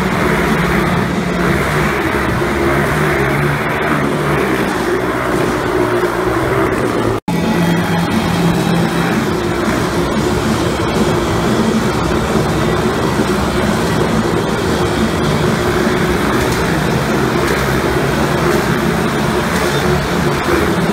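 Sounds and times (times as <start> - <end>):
motorcycle engines running: 0.0 - 20.9.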